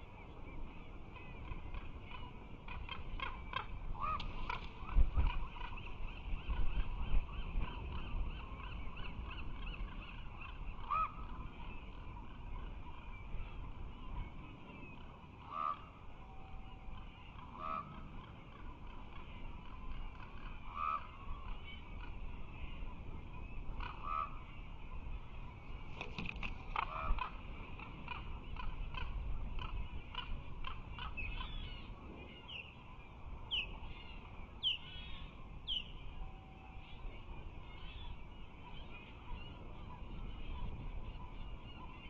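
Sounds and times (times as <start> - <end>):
birds calling: 0.0 - 42.0.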